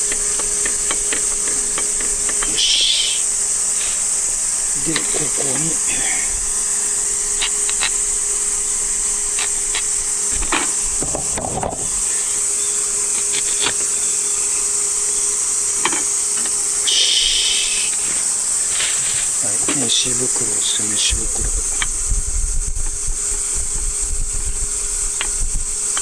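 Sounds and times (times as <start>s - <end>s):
cicadas shrilling: 0.0s - 26.0s.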